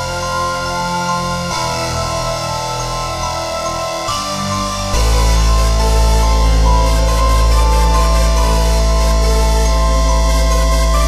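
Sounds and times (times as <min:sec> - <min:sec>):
background music held chords: 0:00.0 - 0:11.0.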